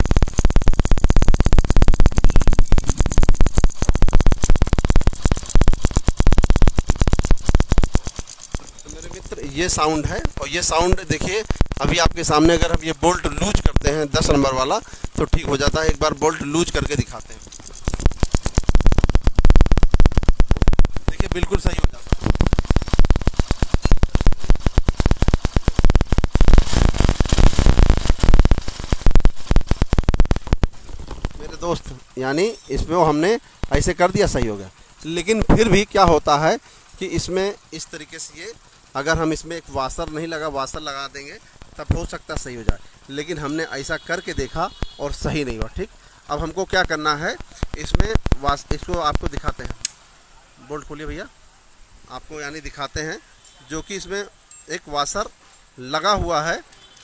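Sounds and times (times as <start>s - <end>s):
motorcycle engine clattering: 0.0s - 50.1s.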